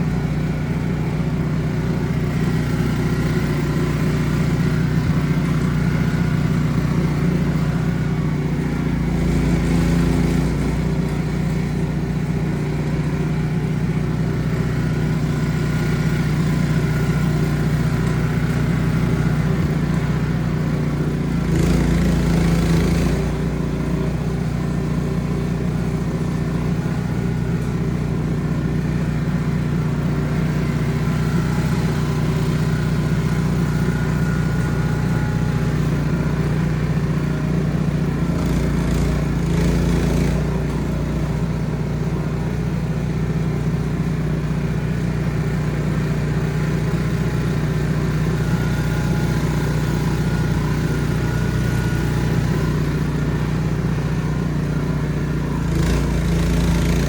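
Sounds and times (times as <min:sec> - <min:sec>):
snow blower running: 0:00.0 - 0:57.0.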